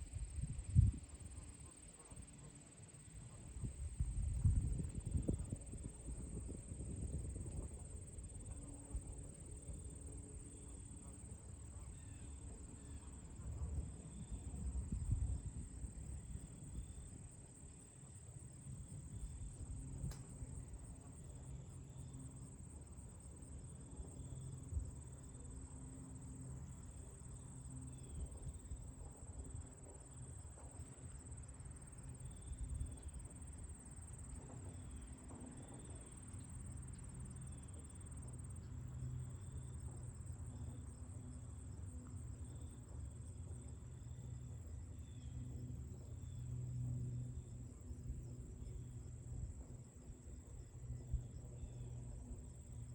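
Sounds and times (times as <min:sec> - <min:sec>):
low rumble of wind: 0:00.0 - 0:02.0, 0:03.2 - 0:52.9
crickets trilling: 0:00.3 - 0:52.9.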